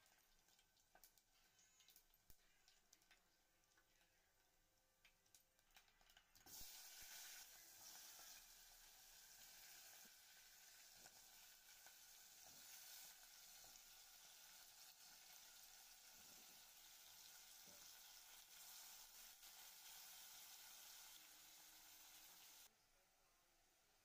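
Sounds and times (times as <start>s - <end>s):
frying sizzle in a pot: 0.0s - 22.7s
spices crackling in hot oil: 0.0s - 22.7s.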